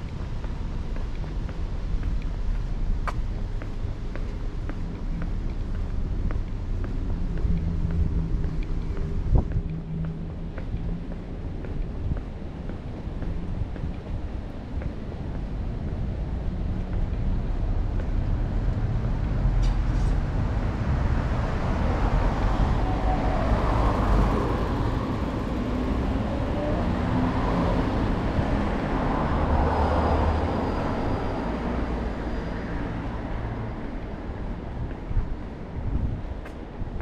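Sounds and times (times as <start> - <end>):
vehicles driving past: 0.0 - 37.0.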